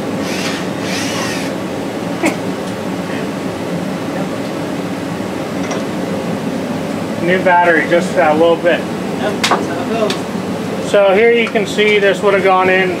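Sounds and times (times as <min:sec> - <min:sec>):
machine whirring hum: 0:00.0 - 0:13.0.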